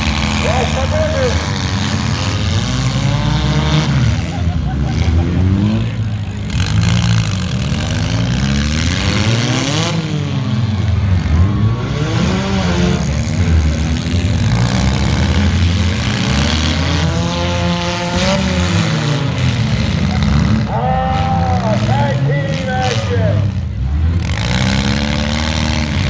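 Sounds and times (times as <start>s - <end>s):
car engines revving: 0.0s - 26.0s
cars ramming each other: 0.0s - 26.0s.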